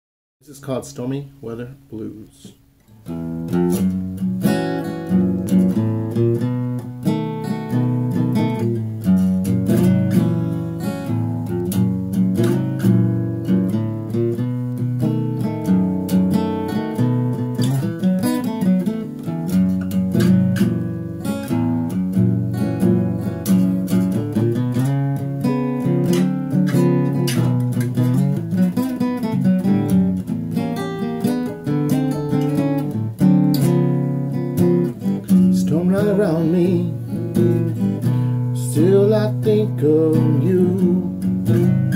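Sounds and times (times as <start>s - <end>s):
acoustic guitar blues: 0.6s - 41.9s.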